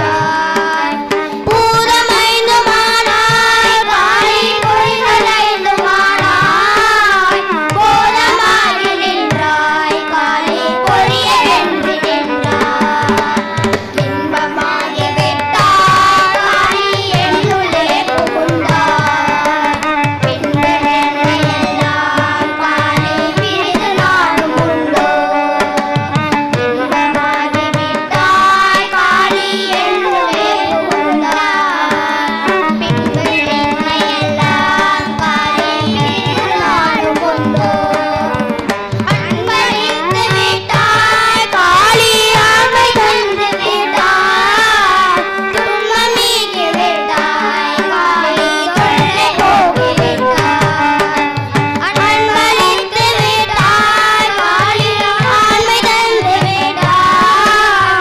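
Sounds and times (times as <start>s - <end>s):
children singing through microphones: 0.0s - 58.0s
hand drum beating: 0.0s - 58.0s.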